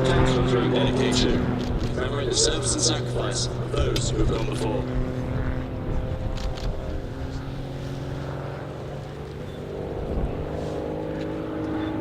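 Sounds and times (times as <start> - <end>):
propeller aircraft engine droning: 0.0 - 12.0.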